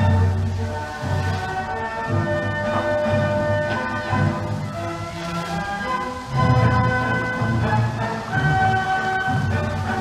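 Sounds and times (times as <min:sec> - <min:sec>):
pulsing bass line: 0:00.0 - 0:10.0.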